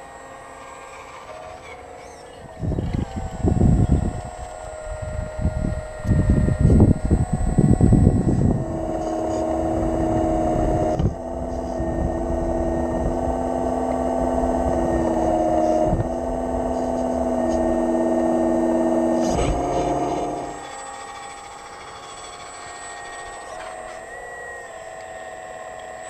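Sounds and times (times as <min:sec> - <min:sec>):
hydraulic drive whining: 0:00.0 - 0:26.0.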